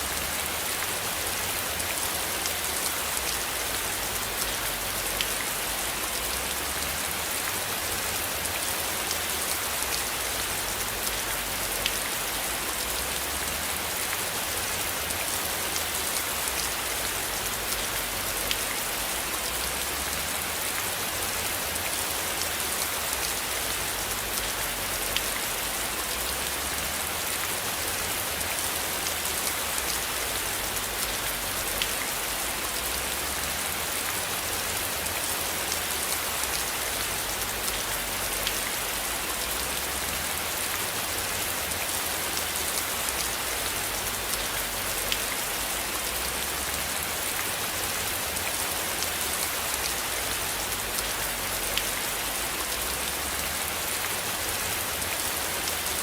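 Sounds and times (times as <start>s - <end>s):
steady rain on a surface: 0.0s - 56.0s.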